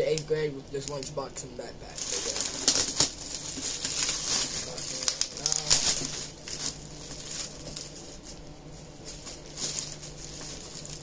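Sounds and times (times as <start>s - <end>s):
plastic bag crinkling: 1.8s - 11.0s.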